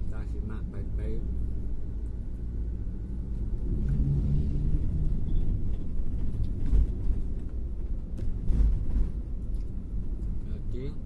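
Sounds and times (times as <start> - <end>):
vehicle driving on road: 0.0 - 11.0.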